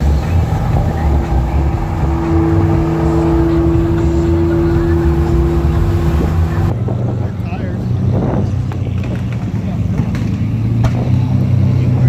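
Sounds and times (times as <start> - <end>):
car engine drone: 0.0 - 12.0
road noise rumble: 0.0 - 12.0.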